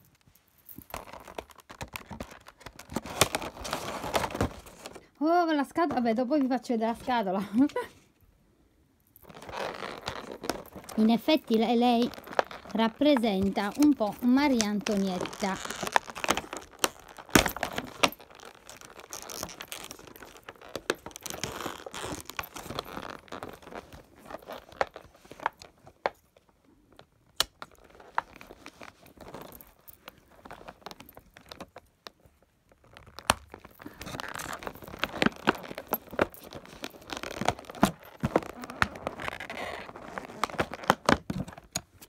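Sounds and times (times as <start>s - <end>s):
plastic packaging crinkling: 0.0s - 5.0s, 9.2s - 26.2s, 26.9s - 42.0s.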